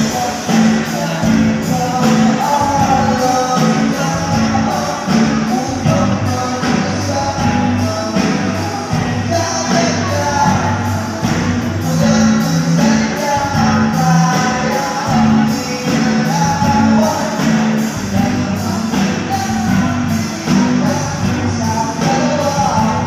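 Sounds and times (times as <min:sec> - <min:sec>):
live rock band playing: 0:00.0 - 0:23.0
person singing: 0:00.0 - 0:23.0.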